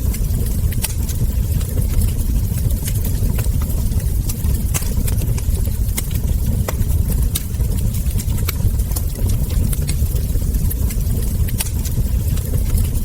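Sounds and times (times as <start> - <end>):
low rumble of burning logs: 0.0 - 13.0
wood fire crackling: 0.0 - 13.0.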